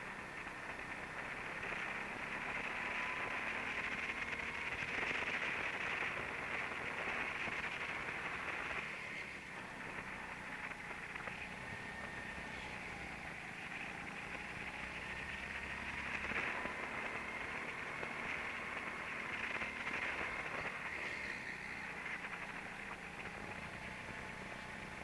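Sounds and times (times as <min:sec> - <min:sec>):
go-kart motor drone: 0:00.0 - 0:25.0.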